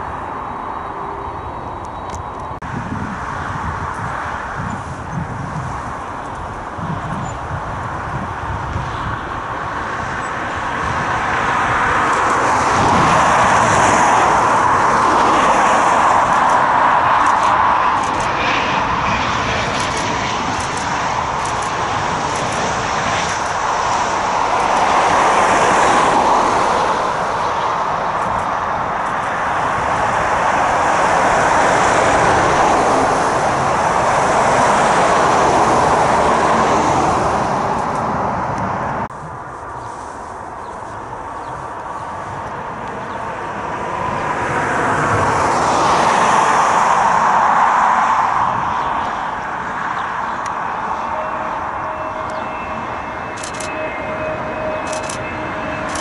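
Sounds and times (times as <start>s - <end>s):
jet engine rushing: 0.0s - 56.0s.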